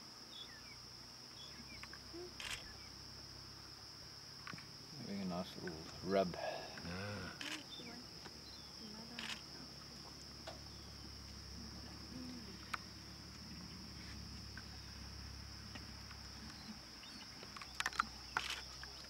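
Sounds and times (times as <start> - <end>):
insect chorus shrilling: 0.0 - 19.0
faint low hum: 0.1 - 19.0.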